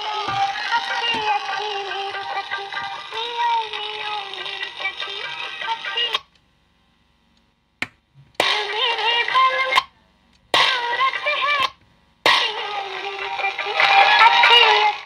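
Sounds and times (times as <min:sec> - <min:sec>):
song playing from a radio: 0:00.0 - 0:06.3, 0:08.4 - 0:09.9, 0:10.6 - 0:15.0.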